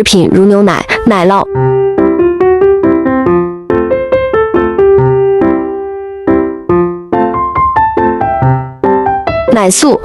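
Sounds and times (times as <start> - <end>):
light piano melody: 0.3 - 10.0.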